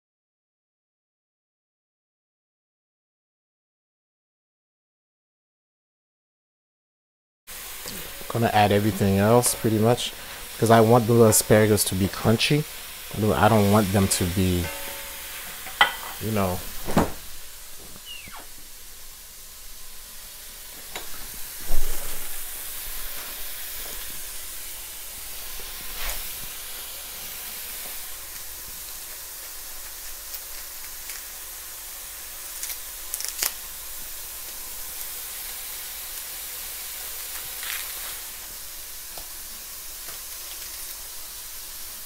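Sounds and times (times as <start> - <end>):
vegetables sizzling in oil: 7.5 - 42.0.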